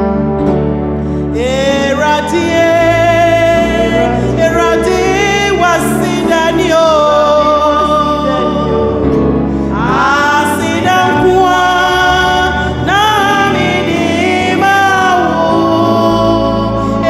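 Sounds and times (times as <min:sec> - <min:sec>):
instrumental backing: 0:00.0 - 0:17.0
solo voice singing gospel: 0:00.0 - 0:17.0.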